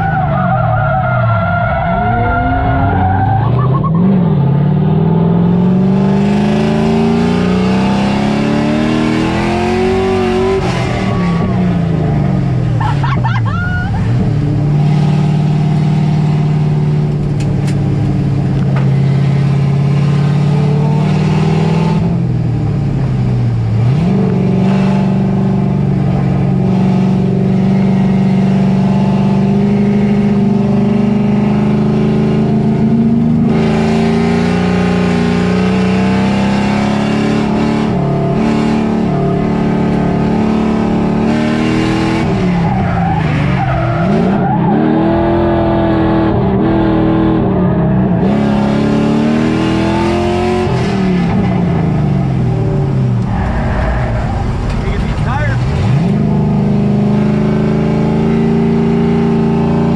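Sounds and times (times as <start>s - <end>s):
car engine revving hard: 1.2s - 59.9s.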